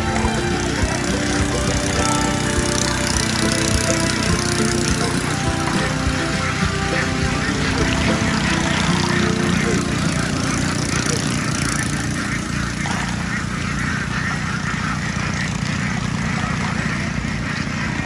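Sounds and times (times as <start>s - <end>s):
flock of ducks quacking: 0.0s - 18.0s
small engine putter: 0.0s - 18.0s.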